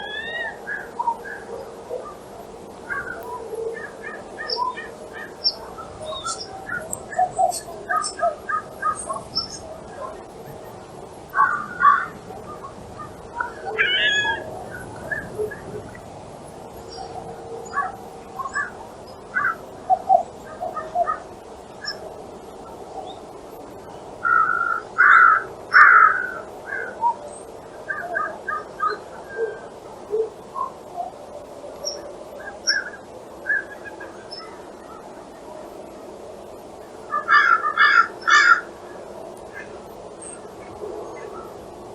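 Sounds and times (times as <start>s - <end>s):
flock of birds calling: 0.0s - 41.9s.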